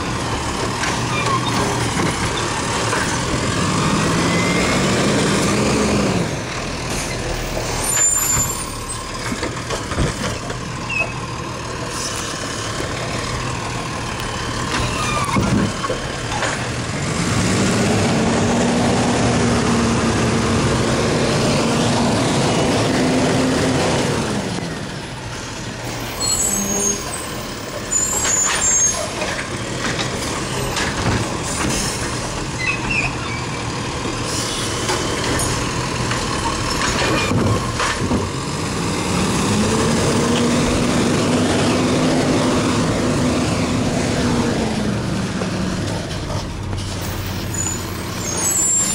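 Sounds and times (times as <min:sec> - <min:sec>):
garbage truck diesel engine: 0:00.0 - 0:48.9.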